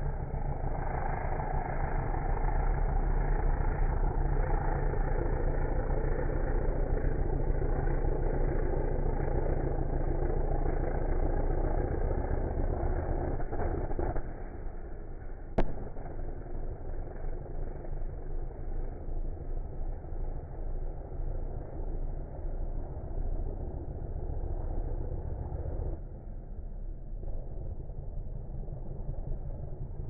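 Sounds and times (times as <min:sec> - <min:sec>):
car engine deep drone: 0:00.0 - 0:30.0.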